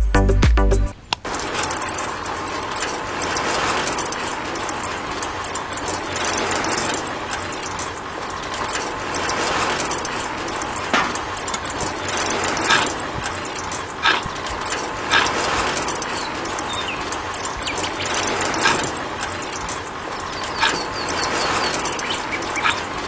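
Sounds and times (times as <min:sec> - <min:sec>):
separating machine rattling: 0:01.3 - 0:23.0.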